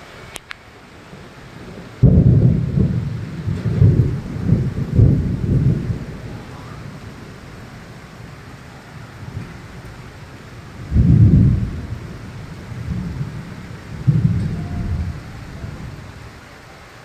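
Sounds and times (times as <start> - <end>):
rain hiss: 0.0 - 17.0
thunder rumbling: 0.8 - 17.0.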